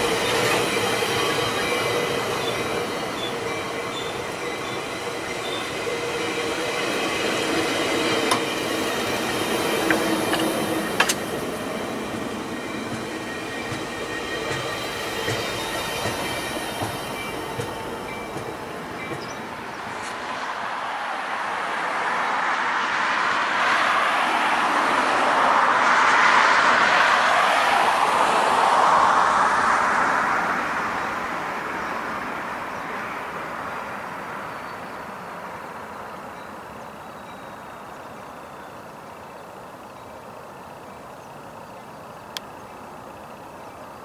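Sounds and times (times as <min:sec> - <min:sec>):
train rolling past: 0:00.0 - 0:44.0.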